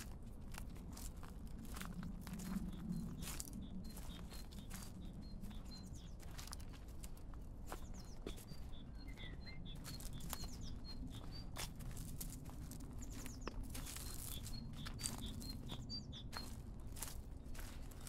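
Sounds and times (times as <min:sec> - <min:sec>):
songbird singing: 0:00.9 - 0:18.0.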